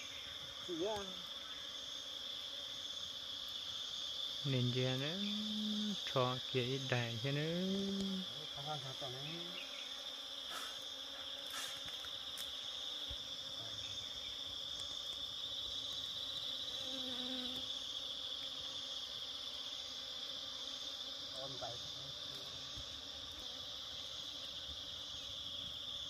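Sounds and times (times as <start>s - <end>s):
jungle insects trilling: 0.0s - 26.0s.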